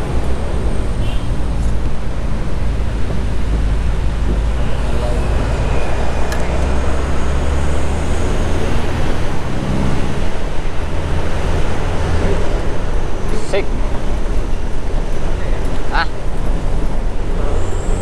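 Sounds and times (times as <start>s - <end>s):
bus engine and tyres droning: 0.0s - 18.0s.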